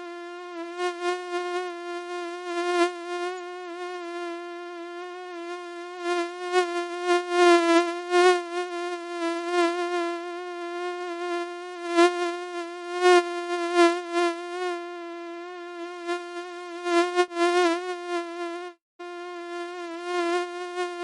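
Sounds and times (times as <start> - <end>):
mosquito buzzing: 0.0 - 21.0.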